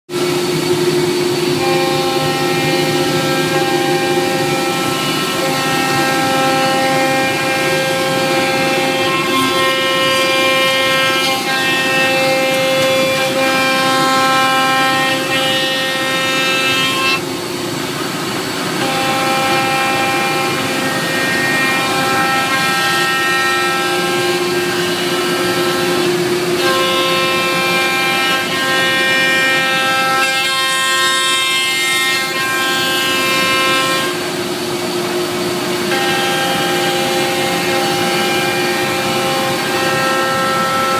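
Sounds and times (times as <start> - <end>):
cnc router machine whine: 0.1 - 40.9.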